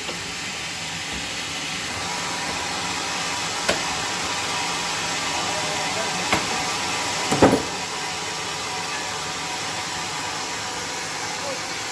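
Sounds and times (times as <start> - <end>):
band sawmill running: 0.0 - 11.9.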